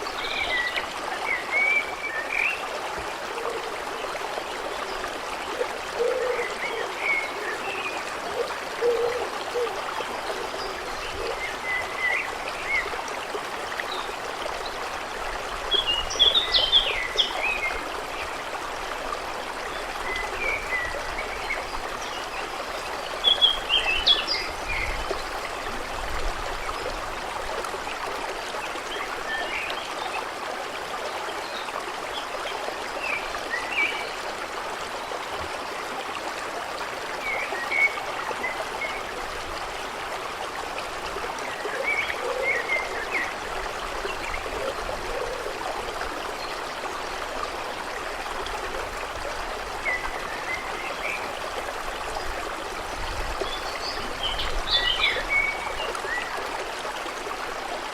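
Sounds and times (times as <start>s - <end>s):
stream babbling: 0.0s - 57.9s.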